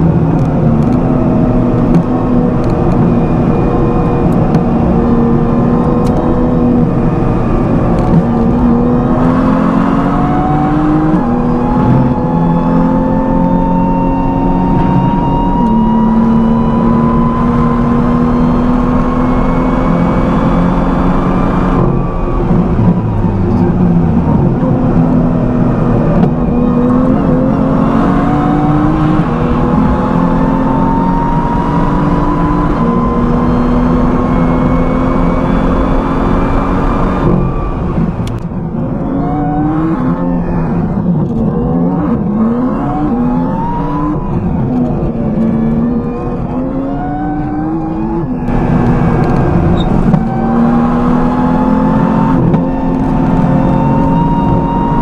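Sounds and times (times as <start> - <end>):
car engine revving through gears: 0.0 - 55.0.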